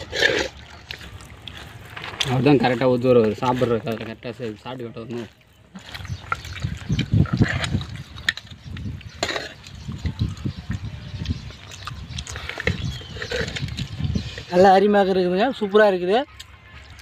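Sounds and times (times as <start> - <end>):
wet eating by hand: 0.0 - 14.5.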